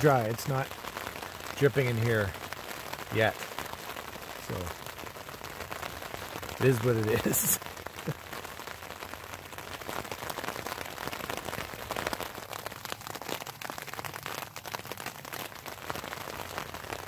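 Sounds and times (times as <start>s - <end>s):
rain patter on a tent: 0.0s - 17.0s.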